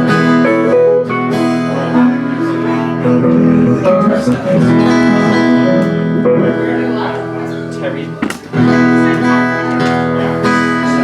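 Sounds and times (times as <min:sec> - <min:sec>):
country band playing: 0:00.0 - 0:11.0
strummed acoustic guitar: 0:00.0 - 0:11.0.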